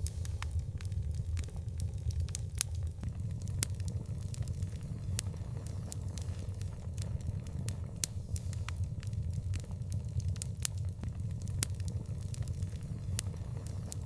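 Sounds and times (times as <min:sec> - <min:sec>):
low fire rumble: 0:00.0 - 0:14.0
wood fire crackling and popping: 0:00.0 - 0:14.0.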